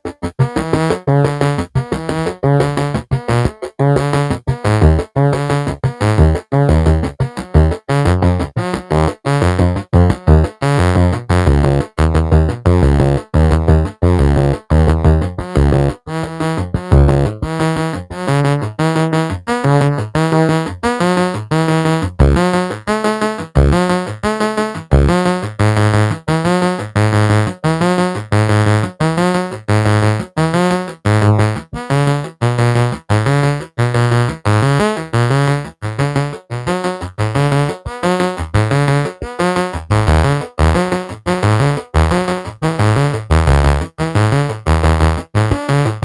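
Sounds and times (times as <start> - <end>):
bass line: 0.0 - 46.0
synthesizer keyboard notes: 0.0 - 46.0.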